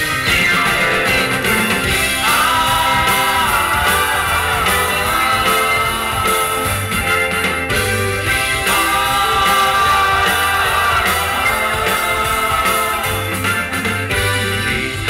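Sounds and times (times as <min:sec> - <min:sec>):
live band music: 0:00.0 - 0:15.0
men singing: 0:00.0 - 0:15.0.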